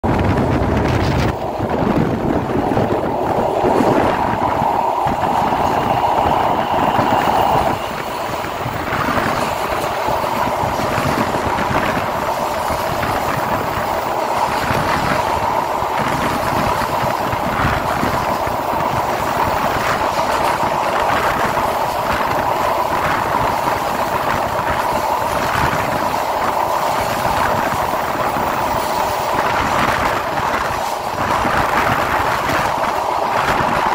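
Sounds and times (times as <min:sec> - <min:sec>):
train wheels rolling on rails: 0:00.0 - 0:33.9.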